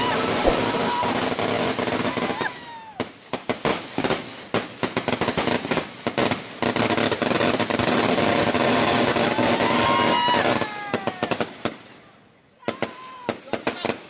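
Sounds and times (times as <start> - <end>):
firecrackers banging: 0.0 - 11.8.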